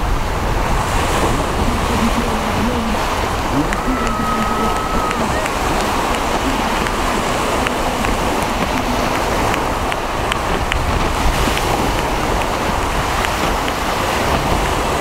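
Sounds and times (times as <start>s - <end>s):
surf washing: 0.0s - 15.0s
wind on microphone: 0.0s - 15.0s.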